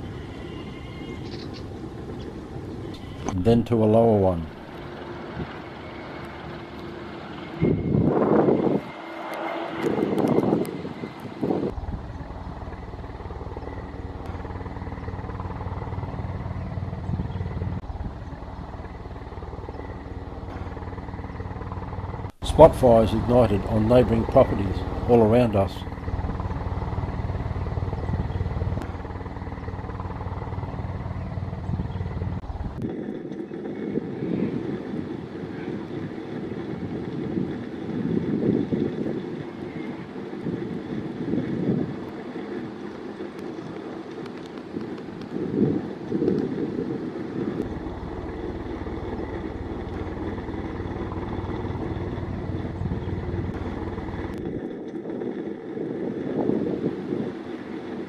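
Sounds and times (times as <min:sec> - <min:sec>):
low pulsing motor drone: 0:00.0 - 0:58.0.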